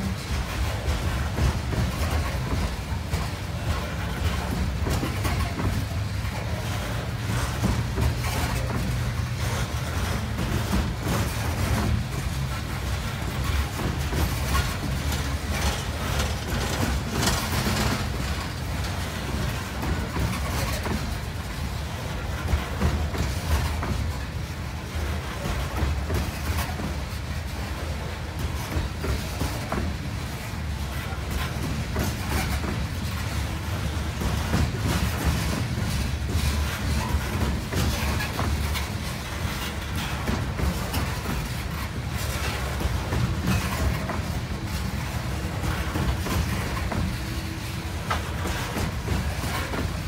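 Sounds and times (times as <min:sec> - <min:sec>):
freight train wheels rumbling: 0:00.0 - 0:50.0
train cars clattering: 0:00.0 - 0:50.0.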